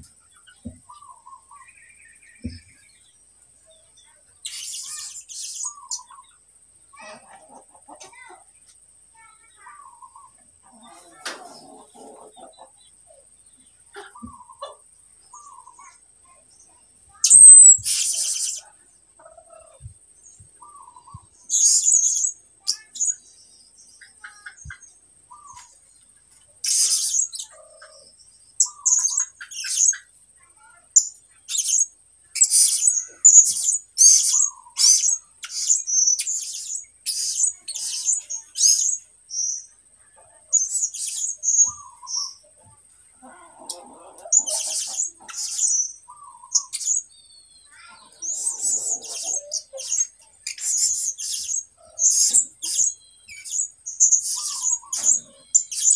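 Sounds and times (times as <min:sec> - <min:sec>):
songbird chirping: 0:00.0 - 0:55.9.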